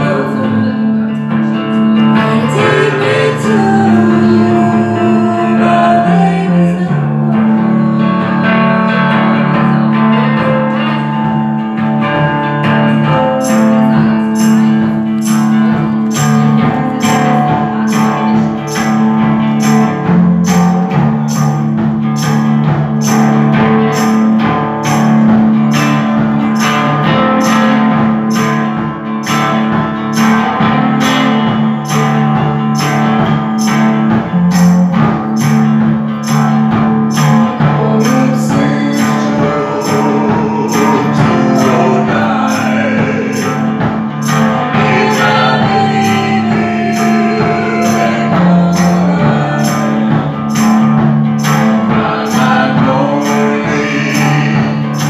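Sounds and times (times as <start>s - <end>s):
electric guitar: 0.0s - 55.0s
drum kit playing: 7.2s - 55.0s
cymbals beating: 8.4s - 55.0s.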